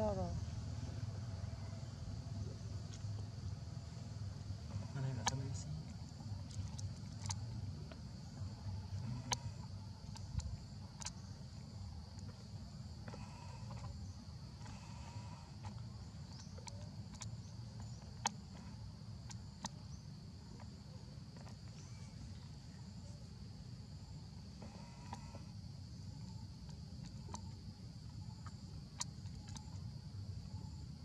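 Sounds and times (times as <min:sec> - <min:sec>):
insects droning: 0:00.0 - 0:31.0
low background rumble: 0:00.0 - 0:31.0.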